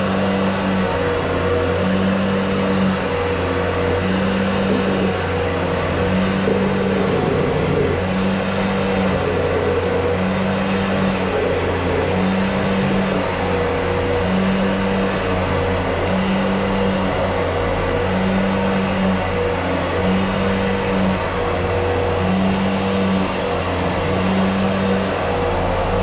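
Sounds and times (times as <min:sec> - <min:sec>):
machine motor running: 0:00.0 - 0:26.0
intermittent hum: 0:00.7 - 0:22.6.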